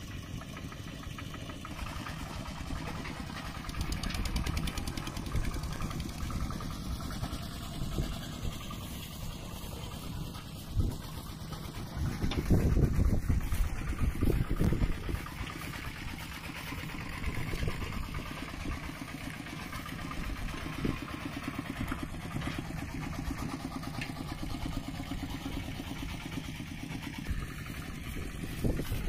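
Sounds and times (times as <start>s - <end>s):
diesel engine chugging: 0.0s - 29.0s.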